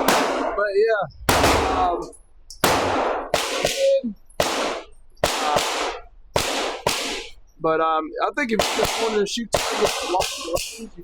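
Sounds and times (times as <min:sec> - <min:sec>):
gunshots: 0:00.0 - 0:07.4, 0:08.5 - 0:10.8.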